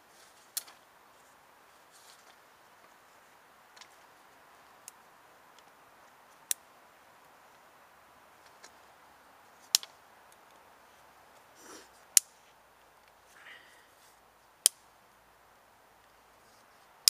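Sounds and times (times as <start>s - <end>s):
sticks rustling: 0.0s - 7.7s, 8.3s - 14.9s
fire crackling: 0.0s - 17.0s.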